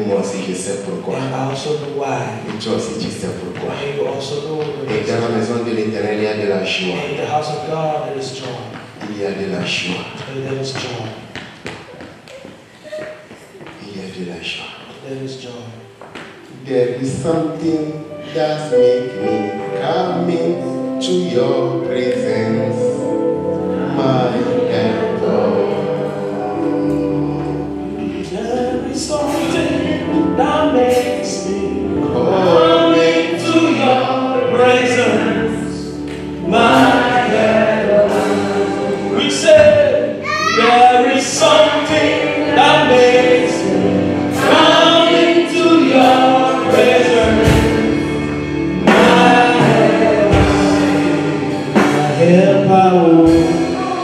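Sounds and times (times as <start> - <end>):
choir singing gospel music: 0.0 - 10.4, 16.3 - 54.0.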